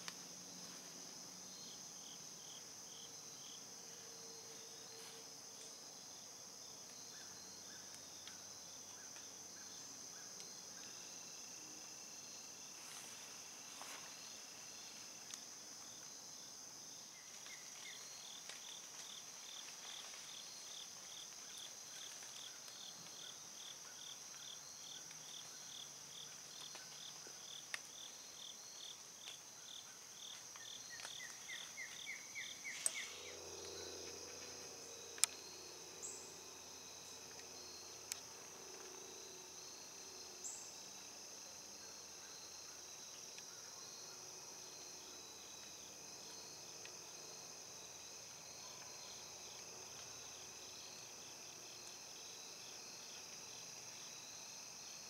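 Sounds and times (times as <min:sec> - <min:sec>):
insects trilling: 0:00.0 - 0:55.0
pulsed cricket chirp: 0:00.0 - 0:55.0.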